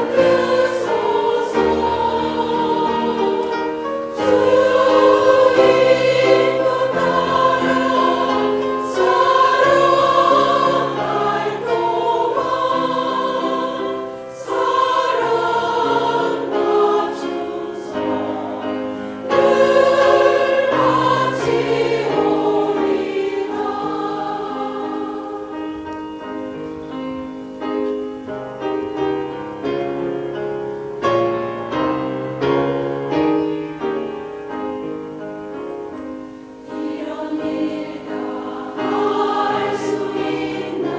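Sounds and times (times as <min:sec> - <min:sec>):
choir singing gospel: 0:00.0 - 0:40.9.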